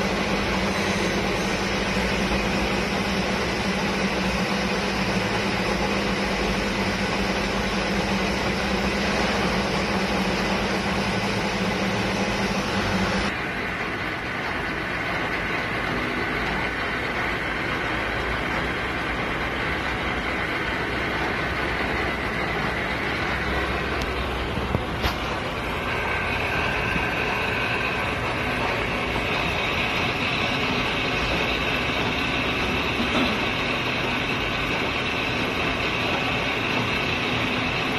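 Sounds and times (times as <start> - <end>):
metal lathe whirring: 0.0 - 37.9.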